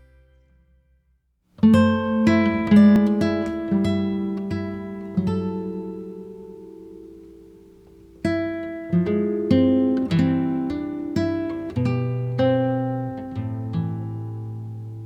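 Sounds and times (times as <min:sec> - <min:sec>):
acoustic guitar plucking: 0:01.6 - 0:15.0.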